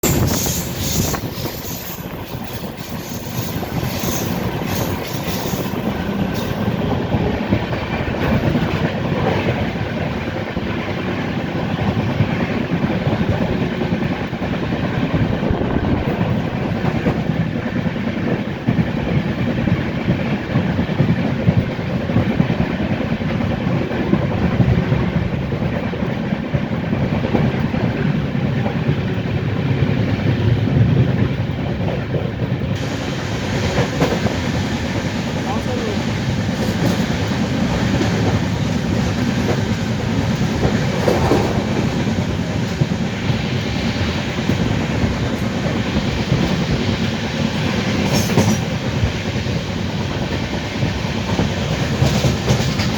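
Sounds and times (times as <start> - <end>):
train coaches rumbling: 0.0 - 52.9
wheels clacking on track: 0.0 - 52.9.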